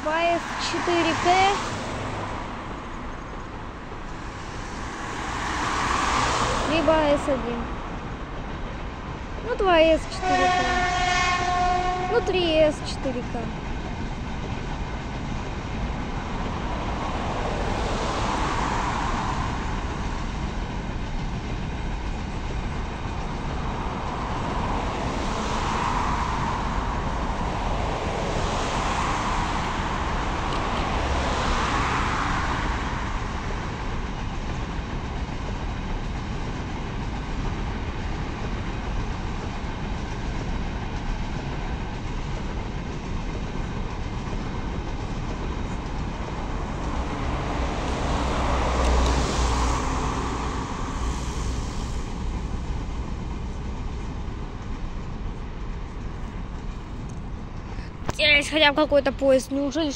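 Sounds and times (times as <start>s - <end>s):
distant train rumbling: 0.0s - 59.9s
road vehicles passing: 0.0s - 59.9s.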